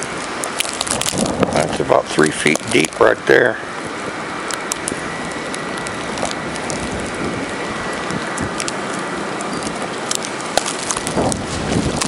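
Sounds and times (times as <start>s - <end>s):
wind and blowing snow: 0.0s - 12.0s.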